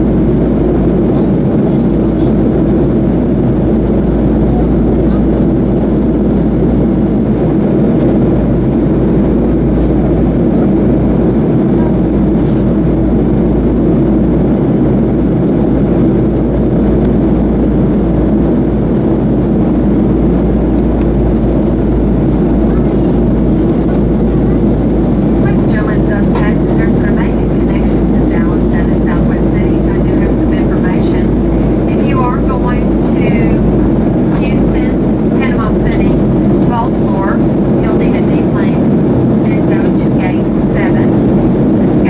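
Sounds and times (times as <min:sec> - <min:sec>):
airplane cabin drone: 0:00.0 - 0:42.0.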